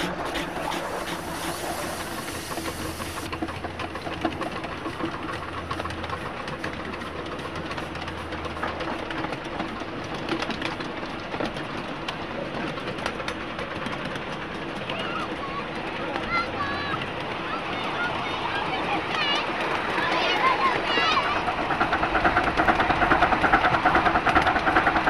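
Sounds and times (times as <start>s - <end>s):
miniature train wheels clicking: 0.0s - 25.0s
train mechanical running noise: 0.0s - 25.0s.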